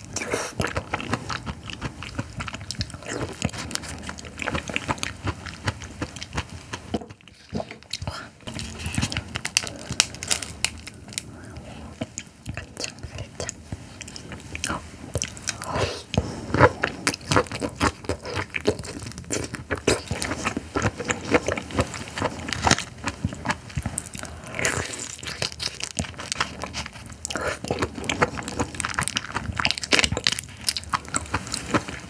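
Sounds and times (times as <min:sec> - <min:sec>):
biting and chewing shrimp: 0:00.0 - 0:11.3, 0:11.9 - 0:32.0.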